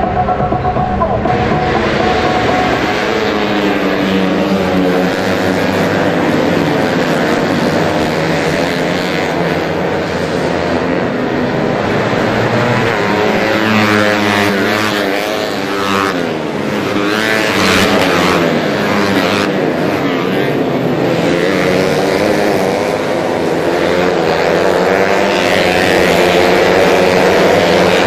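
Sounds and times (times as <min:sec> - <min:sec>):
racing motorcycles revving: 0:00.0 - 0:28.0.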